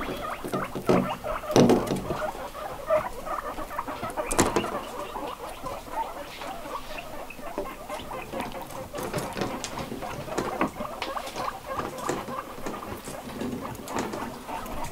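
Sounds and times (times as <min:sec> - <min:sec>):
guinea pigs crunching vegetables: 0:00.0 - 0:14.9.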